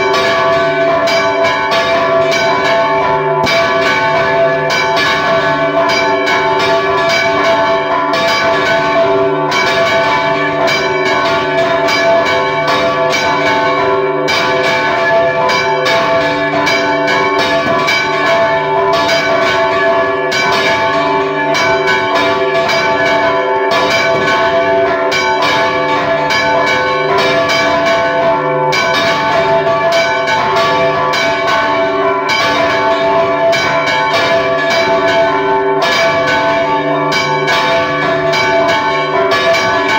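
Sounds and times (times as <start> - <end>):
church bells ringing rapidly: 0.0 - 39.9.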